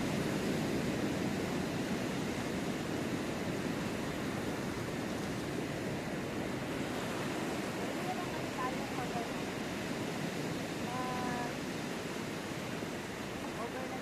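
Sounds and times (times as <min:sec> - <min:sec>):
ocean surf rushing: 0:00.0 - 0:14.0.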